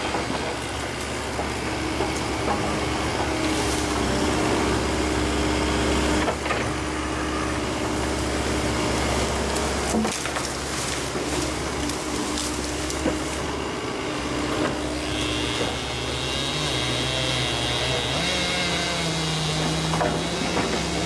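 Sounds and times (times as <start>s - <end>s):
excavator engine running: 0.0s - 21.0s
hydraulics working: 0.0s - 21.0s.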